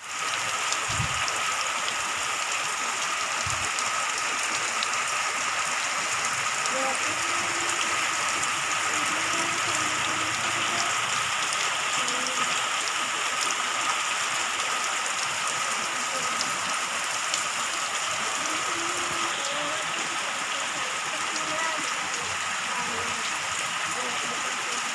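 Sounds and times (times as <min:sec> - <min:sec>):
rain falling steadily: 0:00.0 - 0:24.9.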